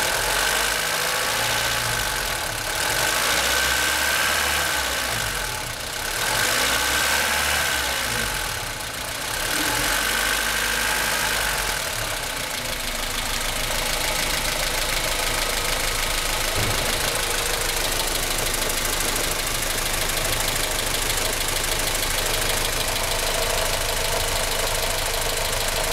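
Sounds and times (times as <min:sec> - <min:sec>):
car engine running: 0:00.0 - 0:25.9
engine rattling and clunking: 0:00.0 - 0:25.9.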